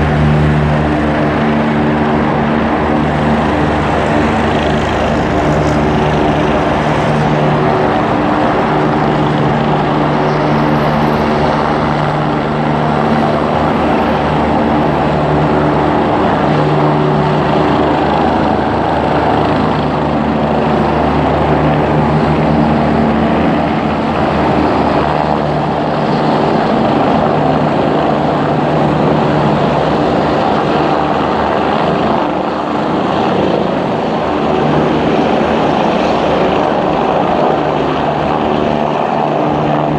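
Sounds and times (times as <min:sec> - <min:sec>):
helicopter rotor and engine hum: 0:00.0 - 0:39.9.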